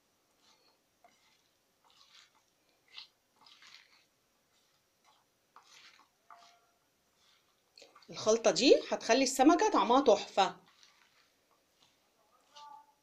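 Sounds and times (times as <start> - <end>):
hands kneading wet vegetables: 0.0 - 13.0.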